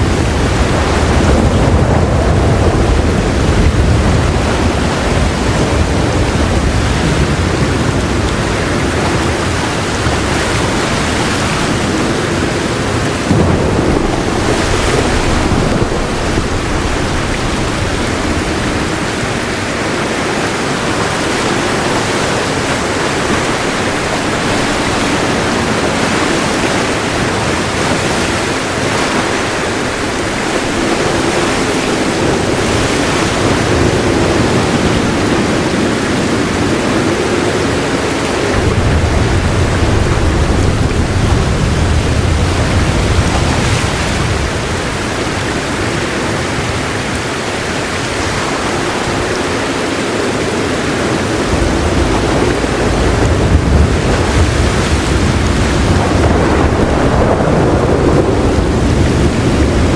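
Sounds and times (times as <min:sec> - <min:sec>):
heavy rain: 0:00.0 - 0:59.9
low rolling thunder: 0:00.0 - 0:59.9.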